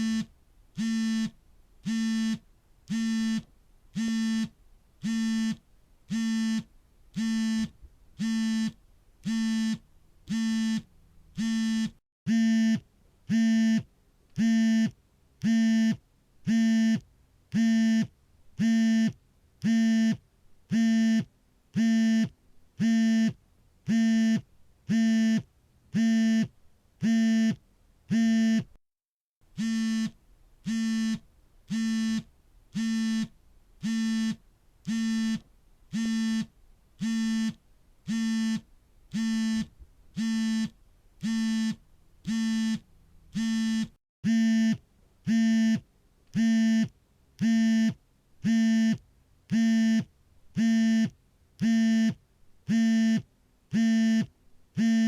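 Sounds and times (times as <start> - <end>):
phone vibrating buzzes: 0.0 - 17.0, 17.6 - 28.8, 29.6 - 45.8, 46.4 - 55.0.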